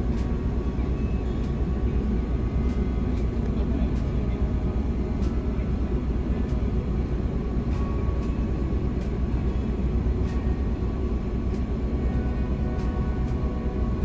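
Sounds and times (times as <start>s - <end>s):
bus engine rumble: 0.0s - 14.0s
road noise: 0.0s - 14.0s.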